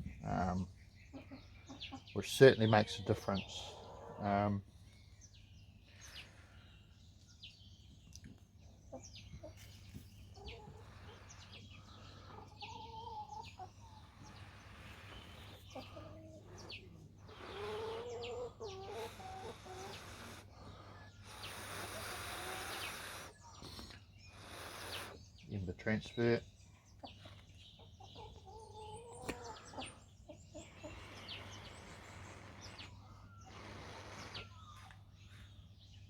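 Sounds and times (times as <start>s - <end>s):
chickens clucking: 0.0s - 4.6s, 7.8s - 35.9s.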